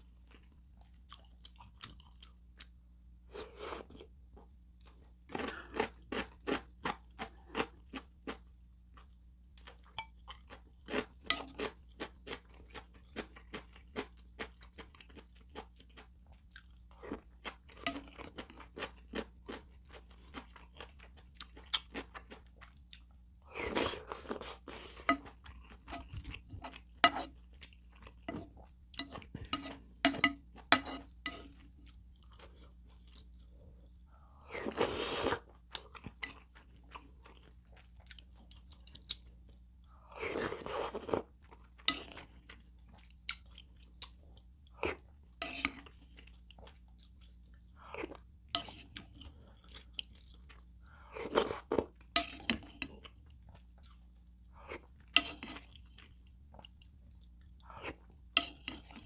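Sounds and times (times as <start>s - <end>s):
wet chewing and crunching: 0.2s - 2.8s, 3.9s - 34.0s, 35.5s - 59.0s.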